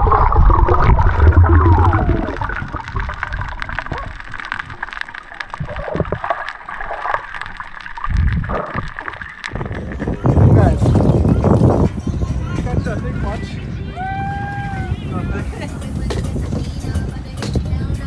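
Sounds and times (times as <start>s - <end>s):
water sloshing around a boat: 2.4s - 18.0s.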